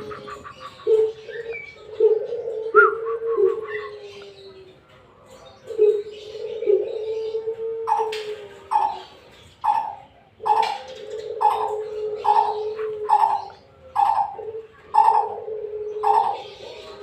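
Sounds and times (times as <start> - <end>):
bird deep hooting calls: 0.0 - 4.9, 5.5 - 17.0.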